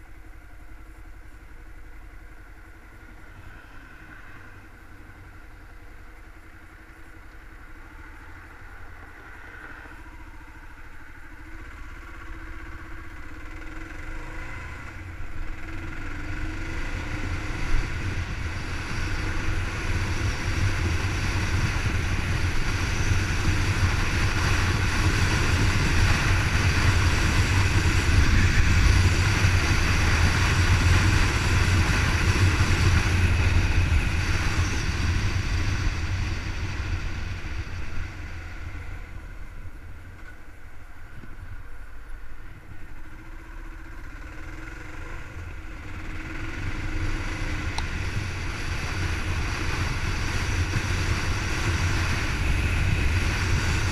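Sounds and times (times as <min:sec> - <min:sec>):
motorcycle engine running: 0:04.4 - 0:53.9.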